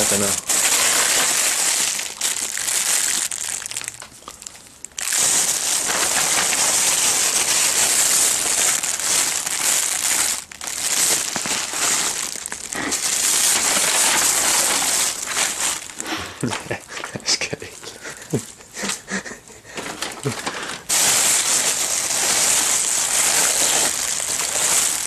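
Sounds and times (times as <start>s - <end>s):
plastic bags rustling and crinkling: 0.0s - 25.0s.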